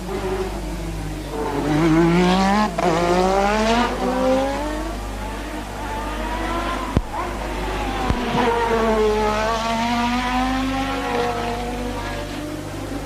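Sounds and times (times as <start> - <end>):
race car engine accelerating past: 0.1 - 13.0.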